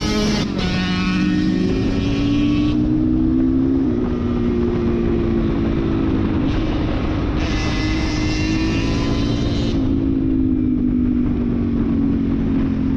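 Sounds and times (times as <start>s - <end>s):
dirt bike engine running: 0.0s - 12.9s.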